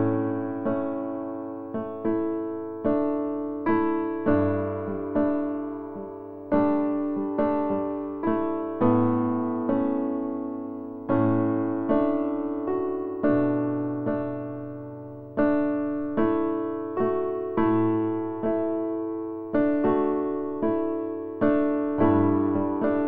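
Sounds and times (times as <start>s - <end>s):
slow gentle piano: 0.0s - 23.0s.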